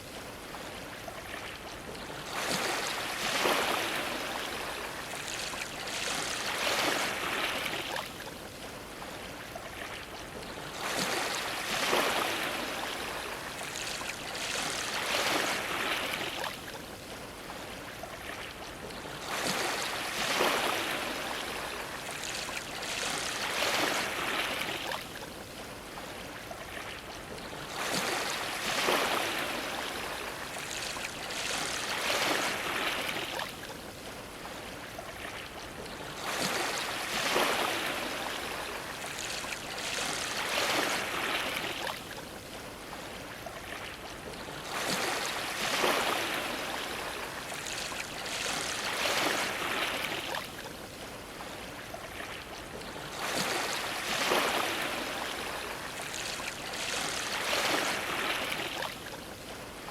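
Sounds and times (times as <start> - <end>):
waves washing against dock: 0.0 - 59.9.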